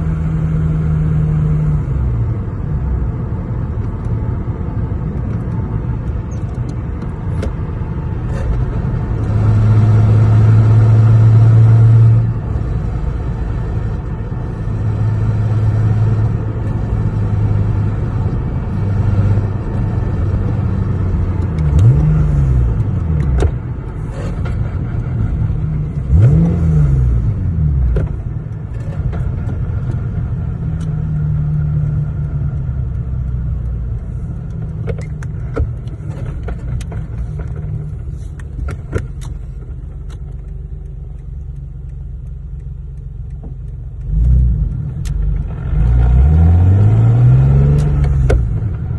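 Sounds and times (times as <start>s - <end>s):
road rumble: 0.0s - 48.9s
car engine revving: 7.2s - 48.9s.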